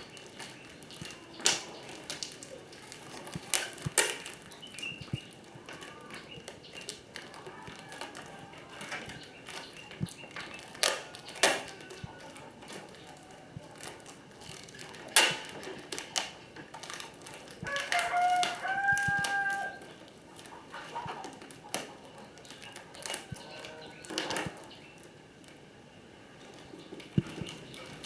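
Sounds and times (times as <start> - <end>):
plastic bottles being taped: 0.0 - 25.8, 26.4 - 28.0.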